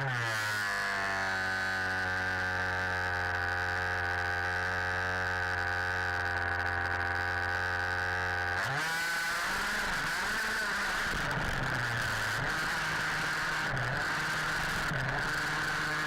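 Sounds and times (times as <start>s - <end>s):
two-stroke engine buzzing: 0.0s - 16.0s.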